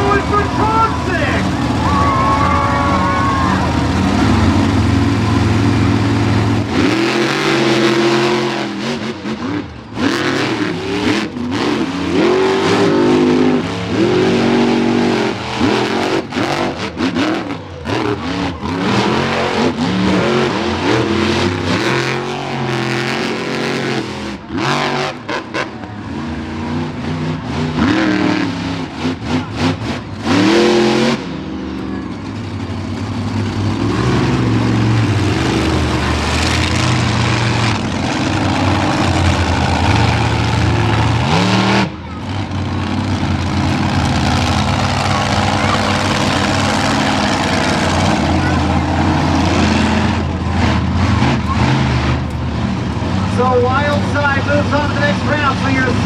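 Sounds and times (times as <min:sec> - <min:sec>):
monster truck engines revving: 0:00.0 - 0:56.0.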